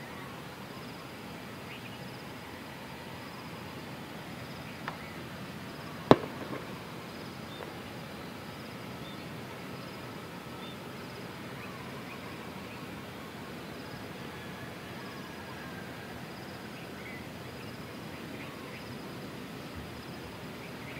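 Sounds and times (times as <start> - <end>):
outdoor background hiss: 0.0 - 20.9.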